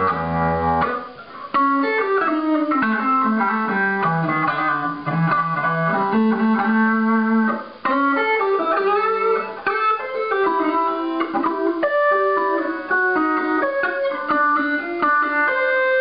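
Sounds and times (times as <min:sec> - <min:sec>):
electric guitar with wah effect: 0:00.0 - 0:16.0.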